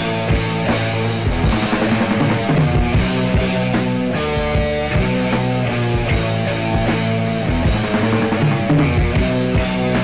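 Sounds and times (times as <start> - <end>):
electric guitar: 0.0 - 10.0
steady drum beat: 0.0 - 10.0.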